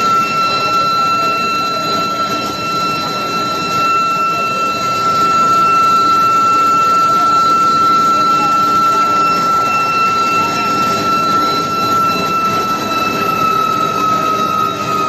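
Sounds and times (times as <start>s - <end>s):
factory machinery noise: 0.0s - 15.0s
high-pitched electrical whine: 0.0s - 15.0s.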